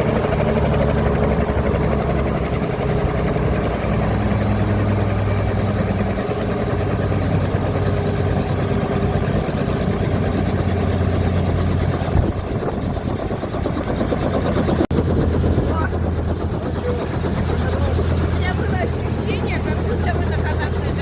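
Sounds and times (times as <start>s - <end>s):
helicopter engine and rotor: 0.0s - 21.0s.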